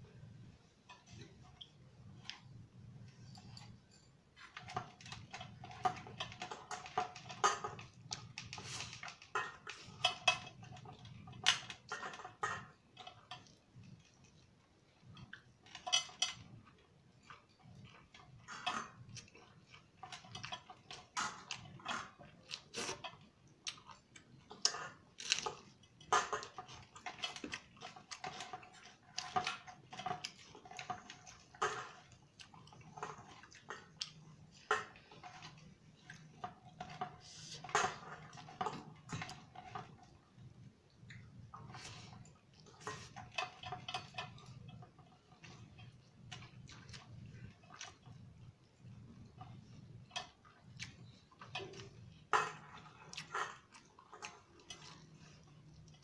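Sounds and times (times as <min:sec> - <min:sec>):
chewing and mouth sounds: 0:00.9 - 0:56.0.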